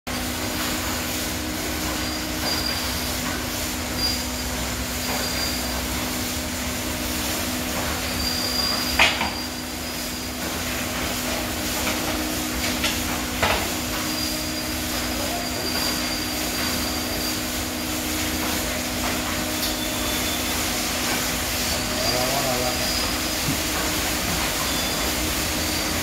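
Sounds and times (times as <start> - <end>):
steady motor hum: 0.1 - 26.0
water sprays hissing: 0.2 - 26.0.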